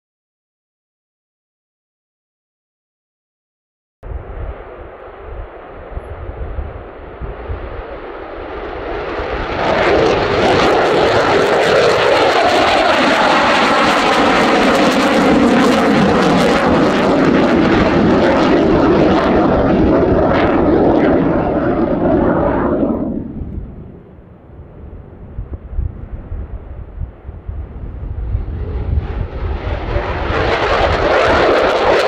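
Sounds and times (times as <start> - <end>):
fighter jet flying past: 4.1 - 32.0.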